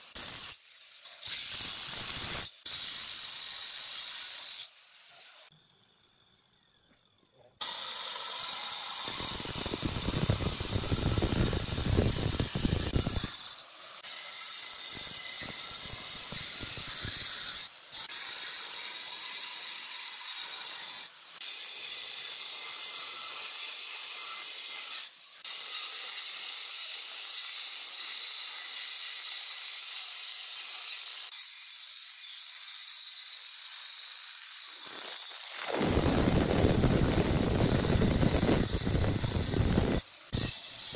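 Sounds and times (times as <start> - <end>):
angle grinder sanding stone: 0.0 - 5.5, 7.6 - 40.9.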